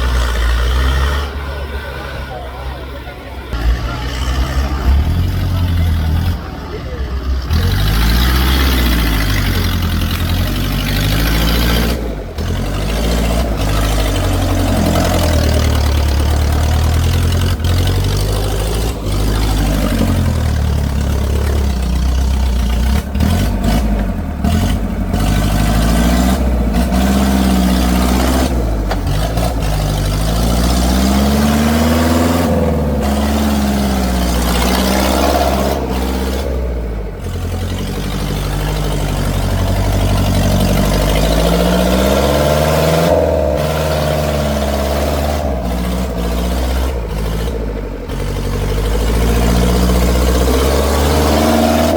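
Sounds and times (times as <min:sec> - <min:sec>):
tractor engines revving: 0:00.0 - 0:51.9.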